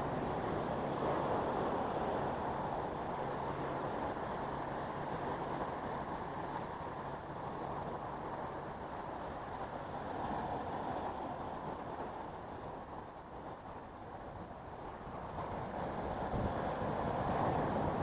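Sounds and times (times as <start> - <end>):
surf washing against rocks: 0.0 - 18.0.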